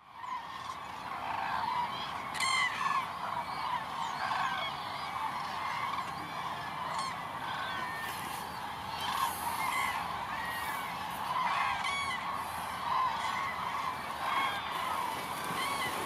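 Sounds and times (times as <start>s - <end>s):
cranes trumpeting: 0.2s - 16.0s.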